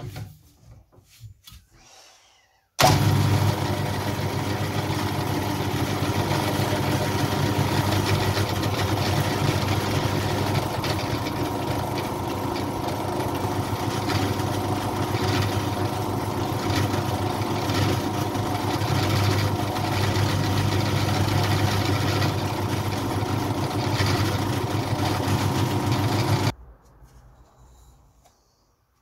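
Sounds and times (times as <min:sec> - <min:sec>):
drill press motor running: 0:02.8 - 0:26.5.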